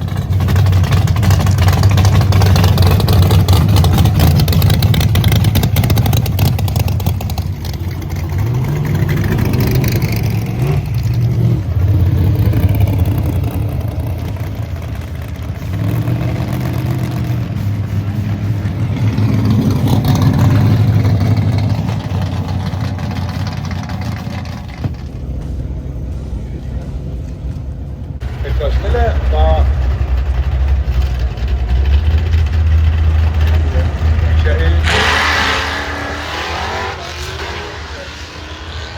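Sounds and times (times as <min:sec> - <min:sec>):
drag car engines revving: 0:00.0 - 0:38.9.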